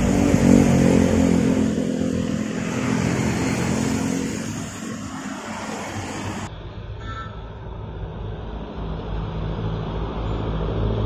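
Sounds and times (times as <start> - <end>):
road traffic: 0.0 - 11.0
truck passing: 0.0 - 11.0.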